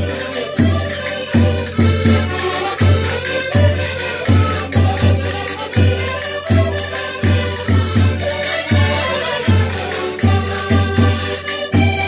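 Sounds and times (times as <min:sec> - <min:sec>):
accordions playing folk dance tune: 0:00.0 - 0:12.0.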